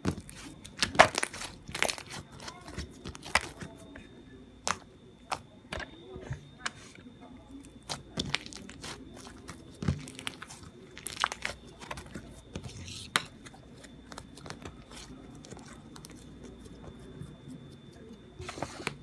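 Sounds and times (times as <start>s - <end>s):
crinkling and crunching clicks: 0.0s - 6.8s, 7.5s - 19.0s
faint high-pitched hum: 0.0s - 19.0s.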